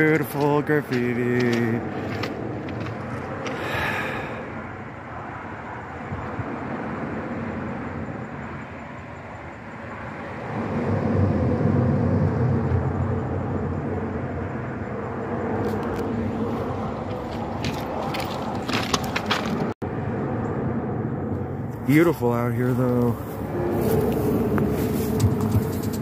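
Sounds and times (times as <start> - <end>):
vehicle passing rumble: 0.0 - 26.0.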